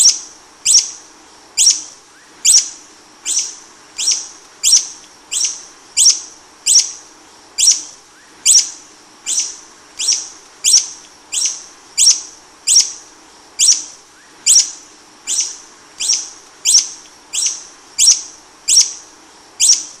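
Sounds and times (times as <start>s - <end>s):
hummingbird chip calls: 0.0s - 7.0s, 7.6s - 13.0s, 13.6s - 20.0s.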